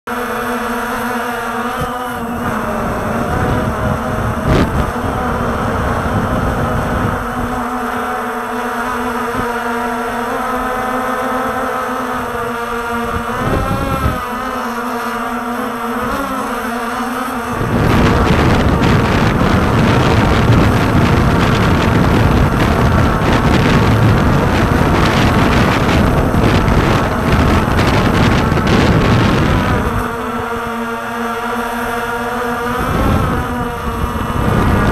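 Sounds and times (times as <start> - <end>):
drone motors whining: 0.1 - 34.9
wind buffeting microphone: 1.4 - 34.9.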